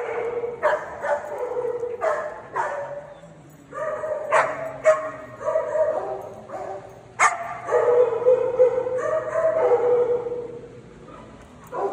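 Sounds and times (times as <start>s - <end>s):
dog barking: 0.0s - 3.1s, 3.8s - 11.9s.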